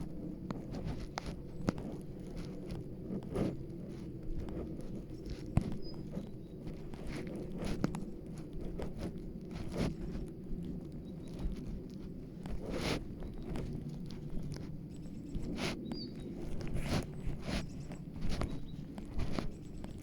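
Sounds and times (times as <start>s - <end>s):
footsteps on forest trail: 0.0s - 20.0s
steady low rumble: 0.0s - 20.0s.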